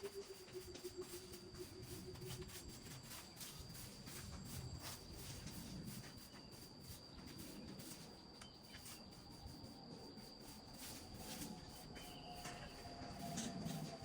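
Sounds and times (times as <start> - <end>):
cricket trilling: 0.0 - 14.0.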